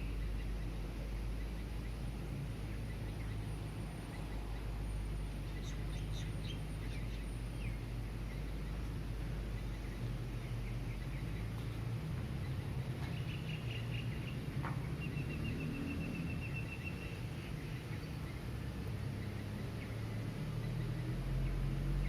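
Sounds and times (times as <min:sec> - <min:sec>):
distant city traffic hum: 0:00.0 - 0:22.0.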